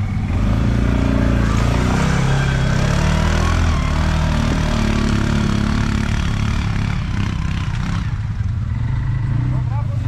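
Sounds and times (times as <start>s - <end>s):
quad bike engine running: 0.0s - 10.0s.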